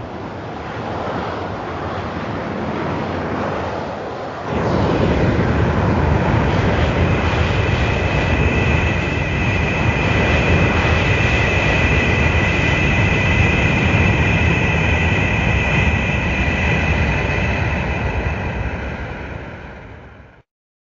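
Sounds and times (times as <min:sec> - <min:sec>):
rushing roar with high whistle: 0:00.0 - 0:20.4.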